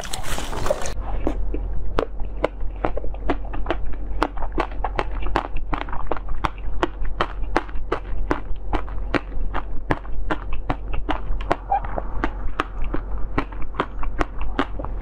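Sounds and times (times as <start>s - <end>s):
wet chewing mouth clicks: 0.0s - 15.0s.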